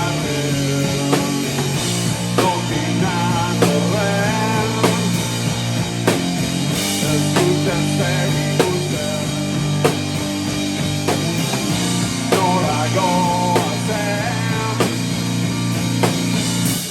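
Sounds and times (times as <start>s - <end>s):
dense electric guitar: 0.0s - 16.9s
live rock band playing: 0.0s - 16.9s.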